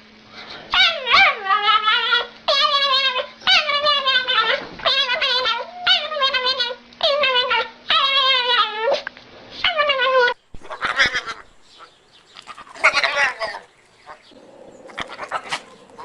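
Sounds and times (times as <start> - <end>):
dog whining: 0.7 - 16.0.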